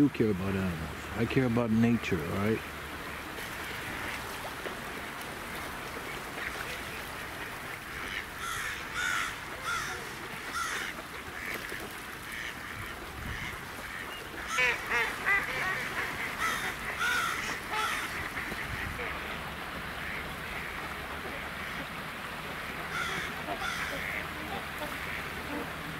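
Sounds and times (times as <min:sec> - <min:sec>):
steady background hiss: 0:00.0 - 0:25.9
waterfowl calling: 0:00.0 - 0:25.9.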